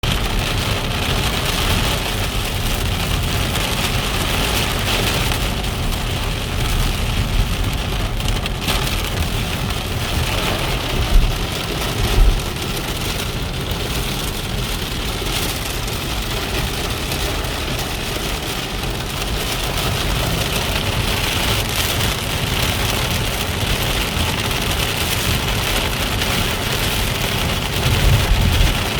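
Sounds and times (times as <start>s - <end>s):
heavy rain on a car: 0.0s - 28.9s
tyre and road noise: 0.0s - 28.9s.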